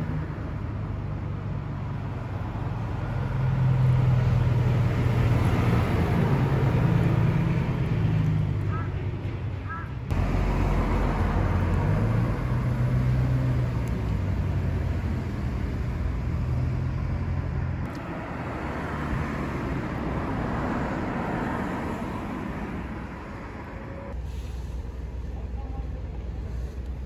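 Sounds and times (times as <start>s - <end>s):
road traffic rush: 0.0s - 27.0s
vehicle engine running nearby: 0.0s - 27.0s.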